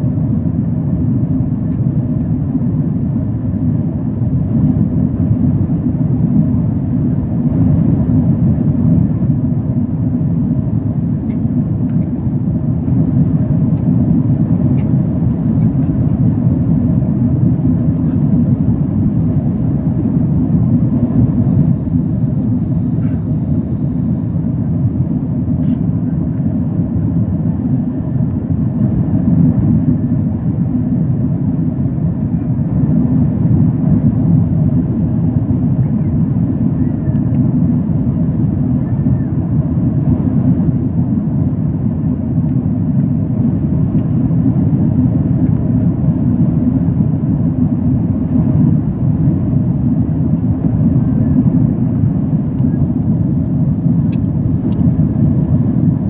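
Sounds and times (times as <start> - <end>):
airliner engines and airflow roar: 0.0 - 56.0.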